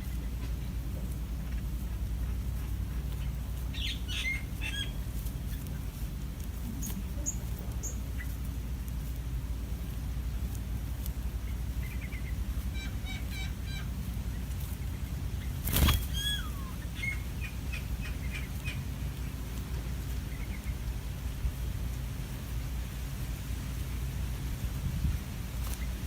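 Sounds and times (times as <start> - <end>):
small birds chirping: 0.0 - 22.6
low outdoor rumble: 0.0 - 26.0.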